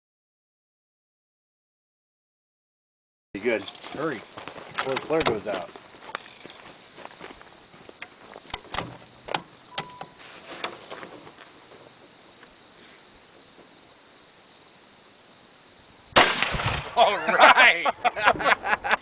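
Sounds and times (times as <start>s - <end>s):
crickets chirping: 3.4s - 19.0s.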